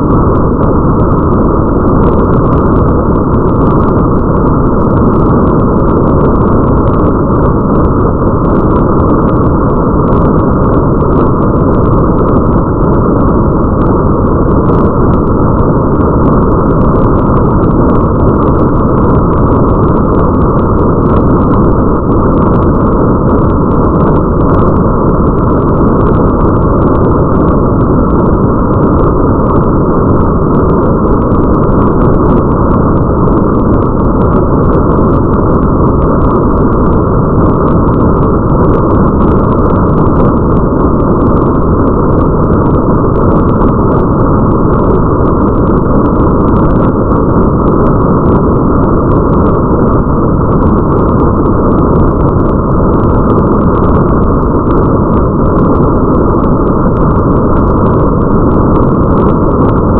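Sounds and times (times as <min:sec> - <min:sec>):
deep rumble: 0:00.0 - 0:55.8
faint ticks of raindrops: 0:00.0 - 0:59.9
muffled rain: 0:00.0 - 0:59.9.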